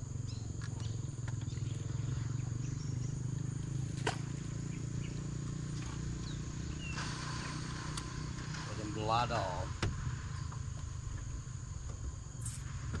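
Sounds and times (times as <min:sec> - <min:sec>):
insect buzz: 0:00.0 - 0:13.0
steady low hum: 0:00.0 - 0:13.0.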